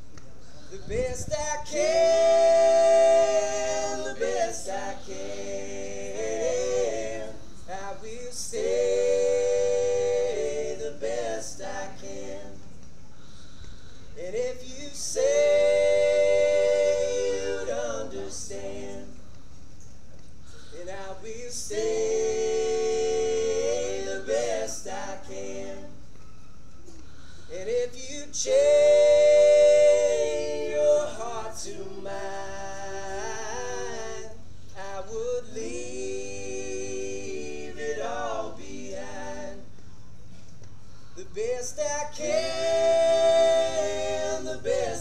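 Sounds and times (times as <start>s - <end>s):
men singing a cappella harmony: 0.5s - 12.8s, 13.7s - 19.3s, 20.6s - 26.1s, 27.2s - 39.9s, 41.2s - 45.0s.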